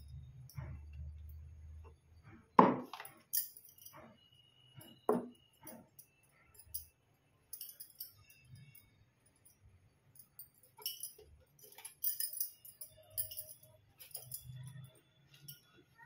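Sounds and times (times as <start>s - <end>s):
metal knocks and clinks: 0.0s - 15.8s.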